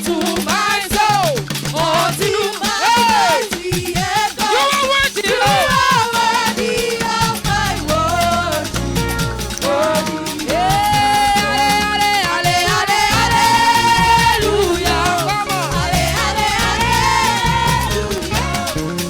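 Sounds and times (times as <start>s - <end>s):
band with bass and percussion: 0.0s - 19.0s
gospel choir singing: 0.0s - 19.0s.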